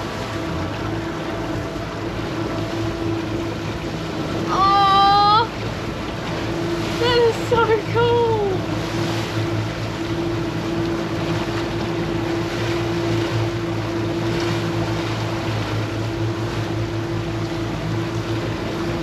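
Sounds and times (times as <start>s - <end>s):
boat engine humming: 0.0s - 19.0s
water rushing: 0.0s - 19.0s.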